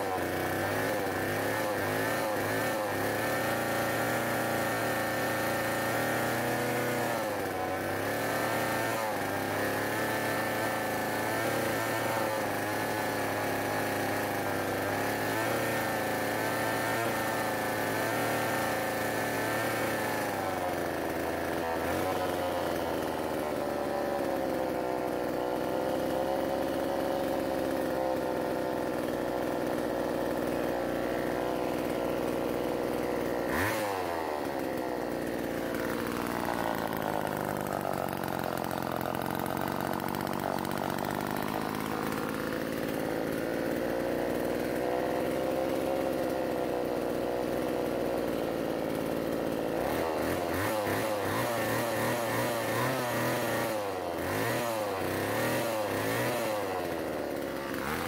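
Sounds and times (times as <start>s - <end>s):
chainsaw engine running: 0.0s - 58.0s.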